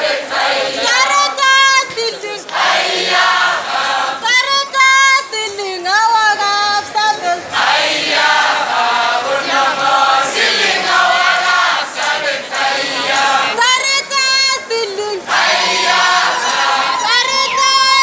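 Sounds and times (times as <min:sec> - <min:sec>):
group singing in chorus: 0:00.0 - 0:04.5, 0:07.0 - 0:18.0
lead voice singing: 0:00.0 - 0:18.0.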